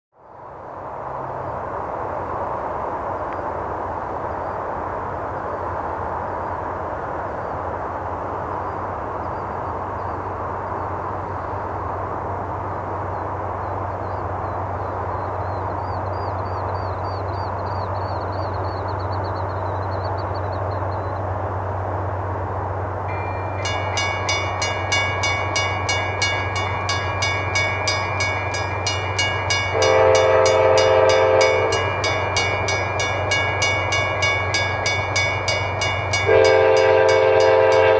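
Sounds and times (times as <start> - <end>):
distant locomotive rumble: 0.2 - 37.9.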